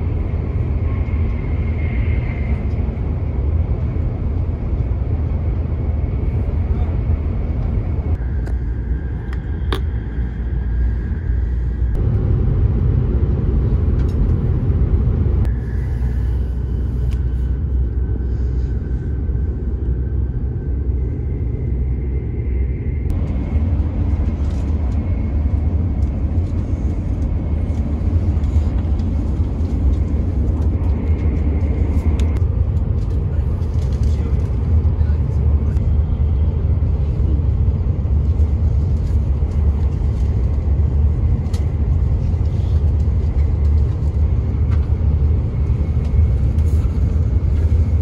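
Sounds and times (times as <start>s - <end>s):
train cabin rumble: 0.0s - 48.0s.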